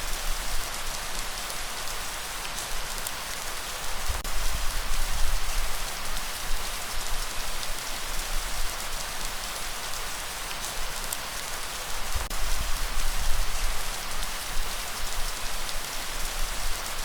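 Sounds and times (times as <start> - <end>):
raindrops ticking on a surface: 0.0 - 17.0
steady rainfall hiss: 0.0 - 17.0.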